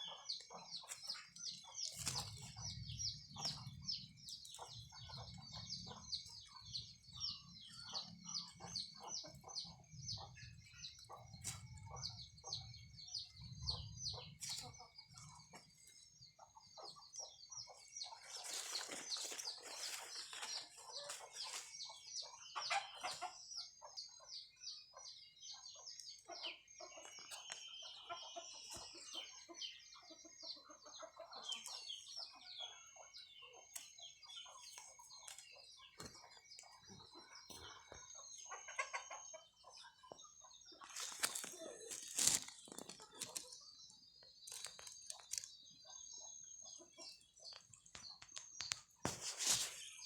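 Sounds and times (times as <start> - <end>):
chickens clucking and chirping: 0.0 - 50.0.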